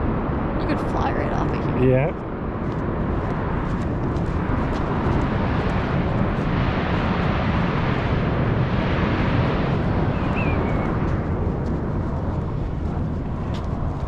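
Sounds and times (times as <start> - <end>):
volcanic crater rumbling: 0.0 - 14.0.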